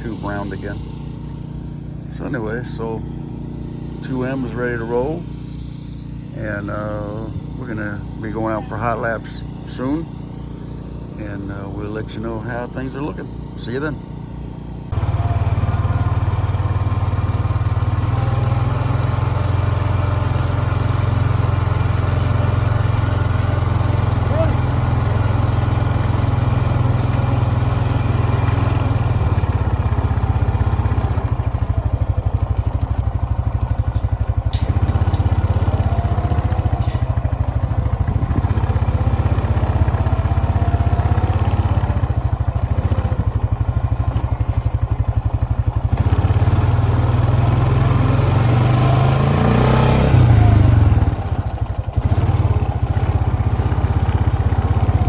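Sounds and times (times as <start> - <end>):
engine rumbling: 0.0 - 55.0.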